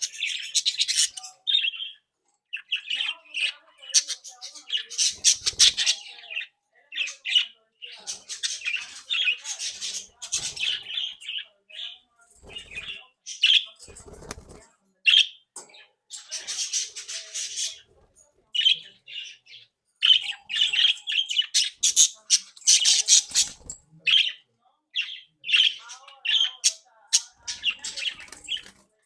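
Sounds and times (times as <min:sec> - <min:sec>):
budgerigars chattering and squawking: 0:00.0 - 0:24.4, 0:25.0 - 0:28.9.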